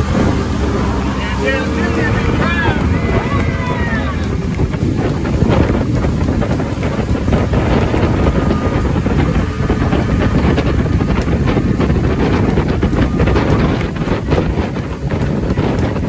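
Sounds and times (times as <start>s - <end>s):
boat hull and engine rushing: 0.0s - 16.0s
wind buffeting microphone: 0.0s - 16.0s.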